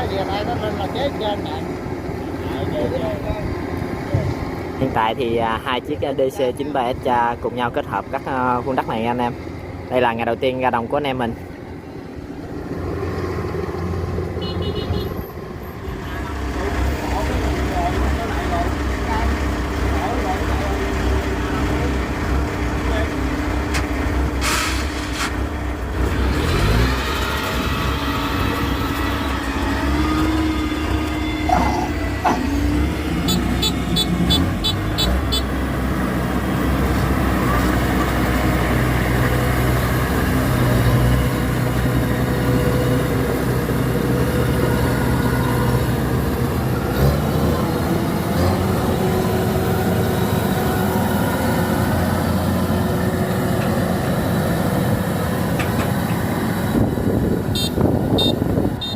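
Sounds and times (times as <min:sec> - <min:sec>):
combine harvester engine drone: 0:00.0 - 0:58.9.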